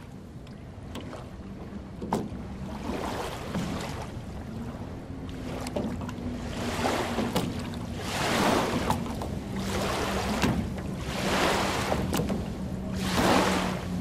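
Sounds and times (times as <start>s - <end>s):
waves lapping on sandy shore: 2.3s - 14.0s.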